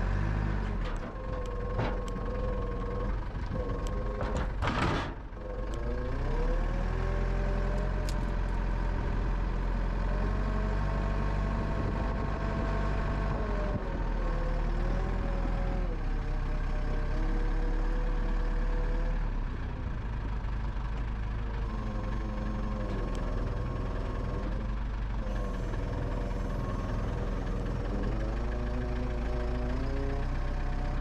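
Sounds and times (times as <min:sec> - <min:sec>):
sawmill engine hum: 0:00.0 - 0:31.0.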